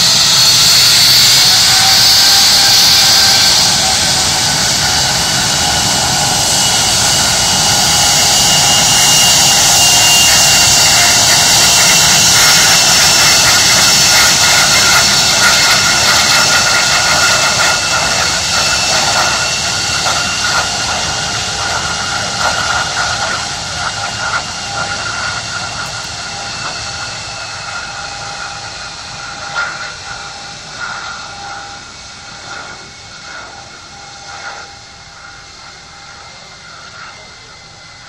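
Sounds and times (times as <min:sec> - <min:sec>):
jet engines rushing and whining: 0:00.0 - 0:38.0.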